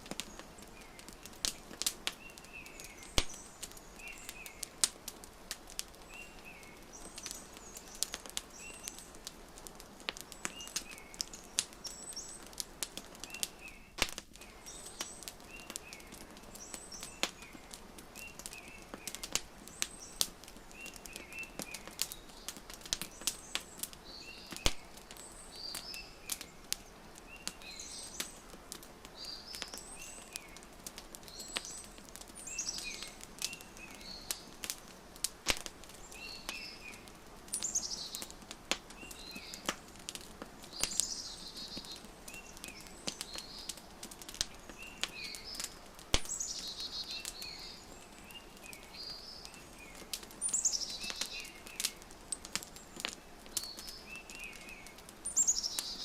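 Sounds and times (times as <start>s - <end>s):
small birds chirping: 0.0s - 56.0s
wood fire crackling: 0.0s - 56.0s.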